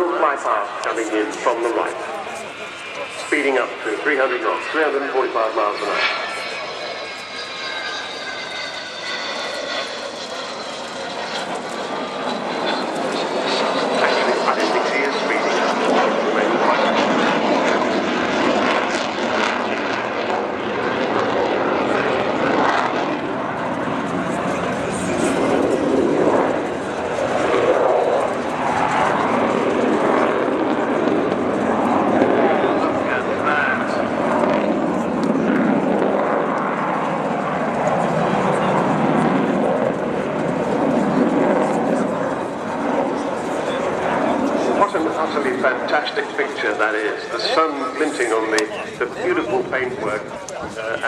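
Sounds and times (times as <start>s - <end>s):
jet flypast rush with whine: 0.0s - 51.0s.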